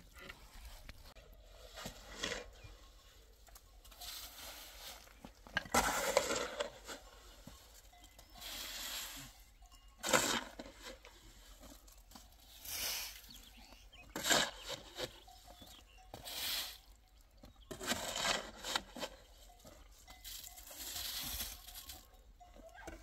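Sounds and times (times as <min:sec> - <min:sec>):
shovel scraping cement in wheelbarrow: 0:00.2 - 0:03.1, 0:03.9 - 0:09.3, 0:10.0 - 0:11.8, 0:12.5 - 0:16.8, 0:17.7 - 0:22.0.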